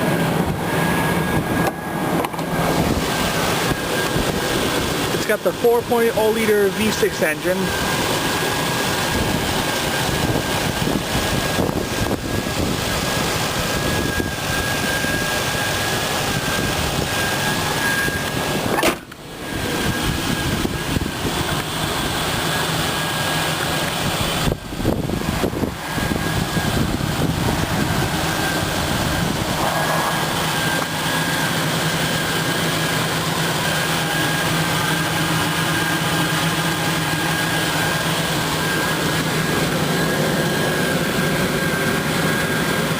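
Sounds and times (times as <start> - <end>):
car engine idling: 0.0 - 42.9
thin high whine: 0.0 - 42.9.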